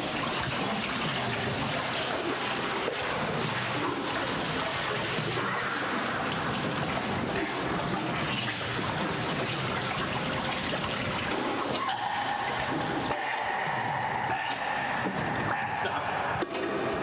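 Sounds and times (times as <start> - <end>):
water pouring onto cloth: 0.0 - 16.0.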